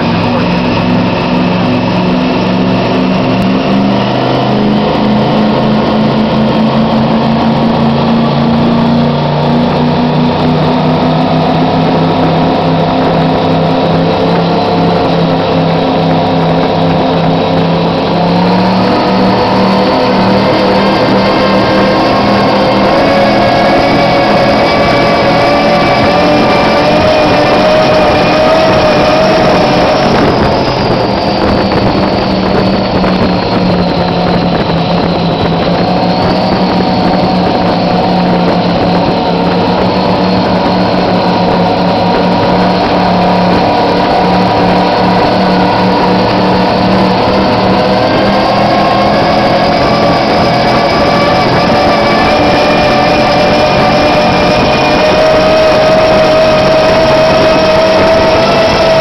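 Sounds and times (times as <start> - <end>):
powerboat engines at high speed: 0.0 - 59.0
rushing water noise: 0.0 - 59.0.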